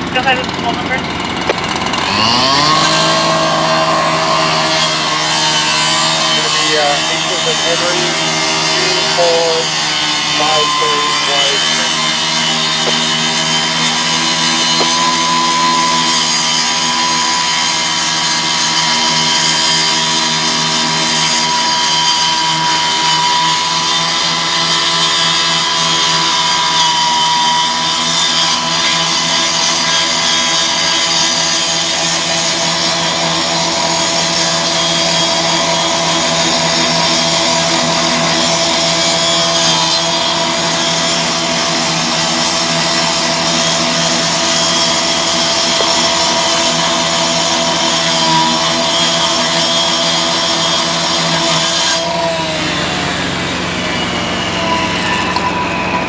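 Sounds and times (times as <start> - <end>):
saw blade cutting sheet metal: 1.4 - 56.0.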